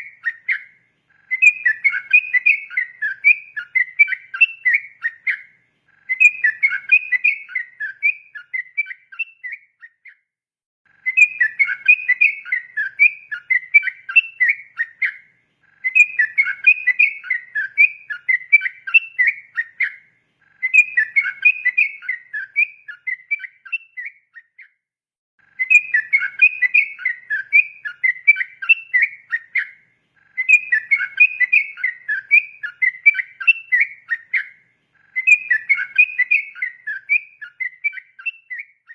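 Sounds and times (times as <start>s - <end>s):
bulbul singing whistled phrases: 0.0s - 10.3s, 10.9s - 24.8s, 25.4s - 38.9s.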